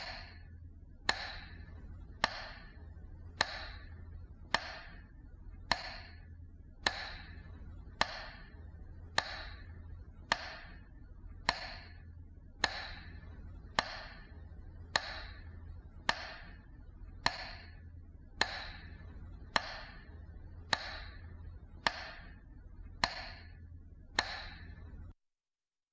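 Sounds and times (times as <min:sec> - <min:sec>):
metronome ticking: 0:01.1 - 0:05.1, 0:05.7 - 0:17.8, 0:18.4 - 0:22.4, 0:23.0 - 0:24.9.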